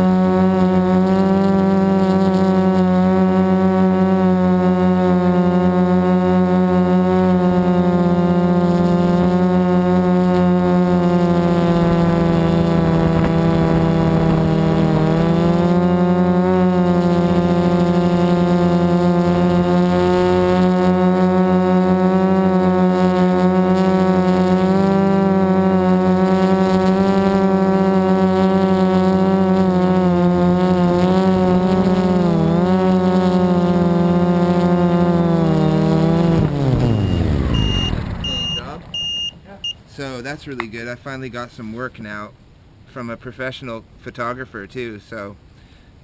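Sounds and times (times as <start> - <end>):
drone propellers droning: 0.0 - 40.1.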